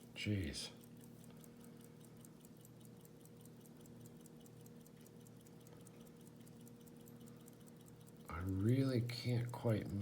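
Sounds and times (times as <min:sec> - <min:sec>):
faint steady hum: 0:00.0 - 0:10.0
fast regular ticking: 0:00.0 - 0:10.0.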